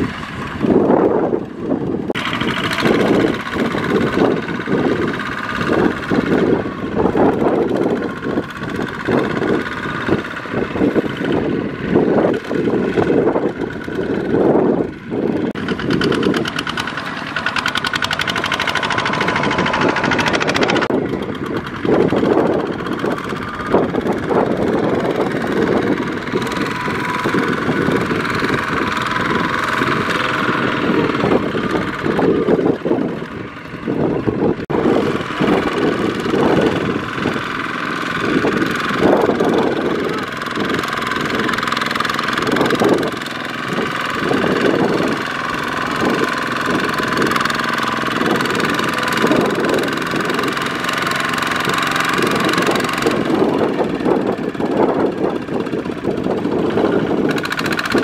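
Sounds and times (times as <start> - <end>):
diesel engines pulsing under load: 0.0 - 58.0.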